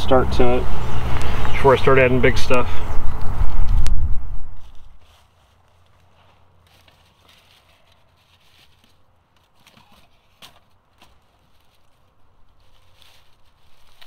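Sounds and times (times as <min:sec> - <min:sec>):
jacket and leaves rustling: 0:02.5 - 0:14.0.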